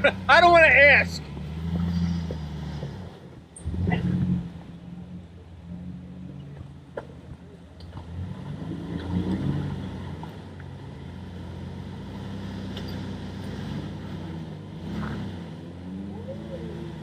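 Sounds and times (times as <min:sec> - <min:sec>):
off-road engine running: 0:00.0 - 0:17.0.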